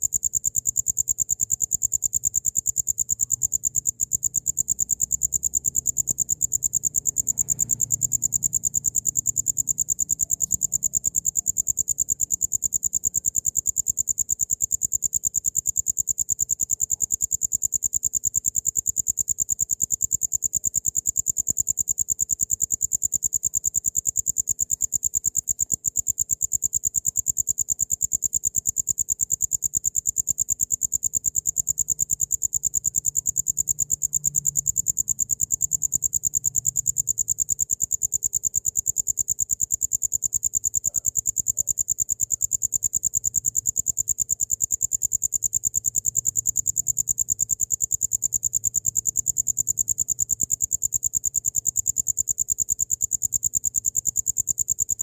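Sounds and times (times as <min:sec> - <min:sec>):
cricket trilling: 0:00.0 - 0:55.0.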